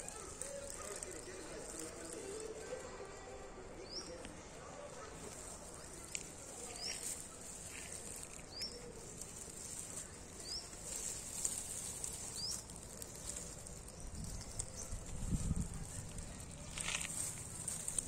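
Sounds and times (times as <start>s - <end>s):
leaves rustling and crackling: 0.0s - 18.0s.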